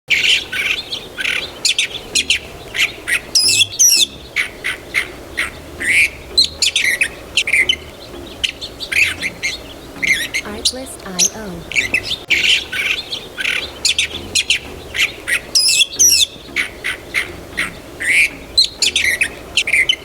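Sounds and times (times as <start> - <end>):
birds chirping: 0.1 - 20.0.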